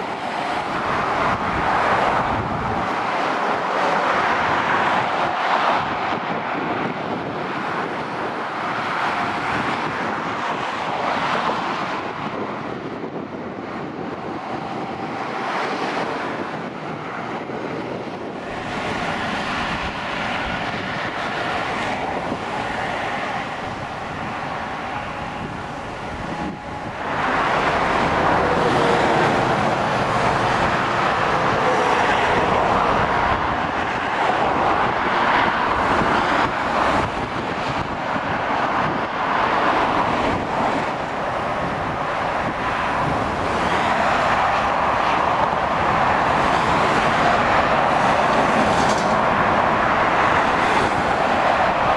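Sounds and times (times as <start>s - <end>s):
motorway traffic tyre roar: 0.0s - 51.9s.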